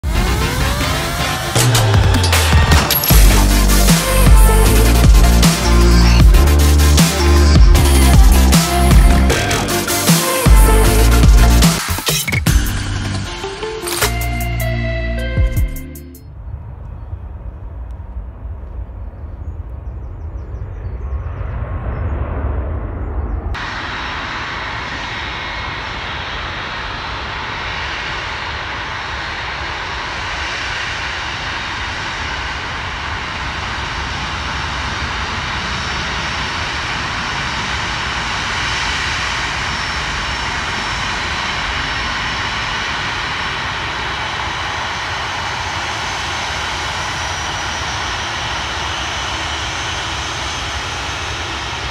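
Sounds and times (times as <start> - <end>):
jet engine roar: 0.0 - 12.6, 16.3 - 51.9.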